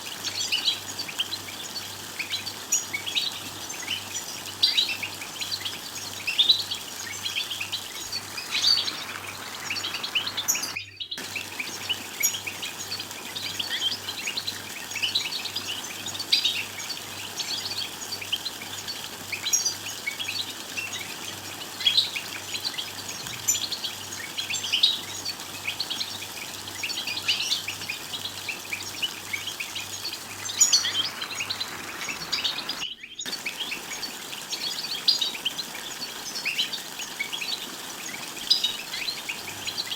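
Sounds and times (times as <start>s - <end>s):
goldfinches chattering and twittering: 0.0s - 39.9s.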